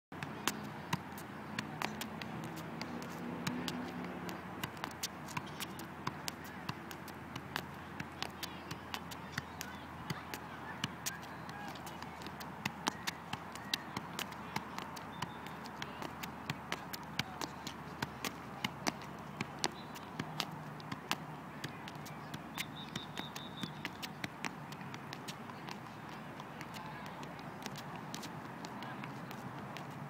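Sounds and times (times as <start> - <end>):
soccer ball taps: 0.2 - 30.0.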